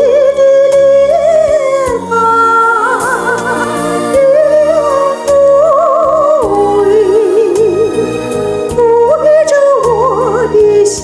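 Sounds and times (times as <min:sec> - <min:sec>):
instrumental backing: 0:00.0 - 0:11.0
woman singing a slow ballad: 0:00.0 - 0:11.0.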